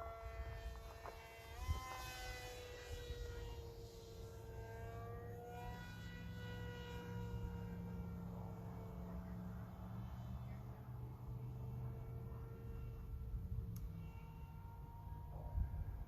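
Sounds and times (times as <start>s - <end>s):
distant model plane motor whine: 0.0s - 16.0s.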